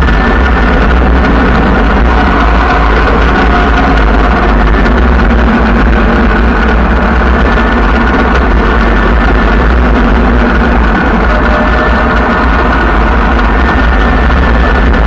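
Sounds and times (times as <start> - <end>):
heavy low rumble: 0.0 - 15.0
vehicle engine drone: 0.0 - 15.0.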